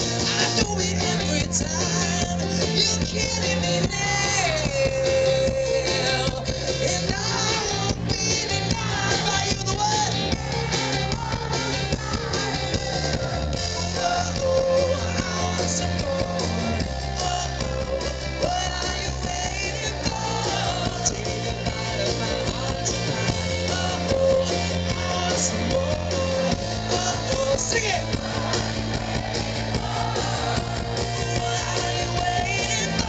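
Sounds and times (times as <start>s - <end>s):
live rock band: 0.0s - 33.0s
man singing lead vocals: 0.0s - 33.0s.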